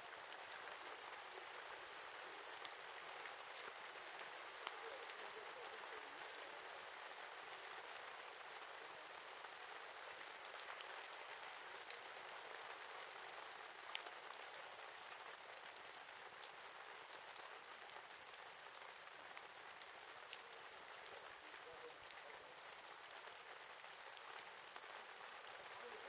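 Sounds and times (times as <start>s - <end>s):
campfire crackling and popping: 0.1s - 26.0s.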